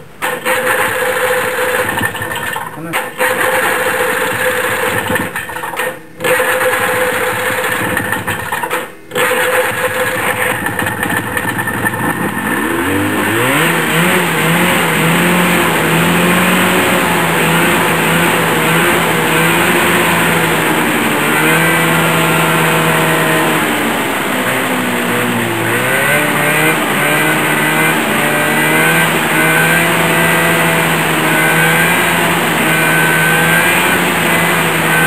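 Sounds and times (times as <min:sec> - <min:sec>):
two-stroke snowmobile engine revving: 0:00.0 - 0:35.0.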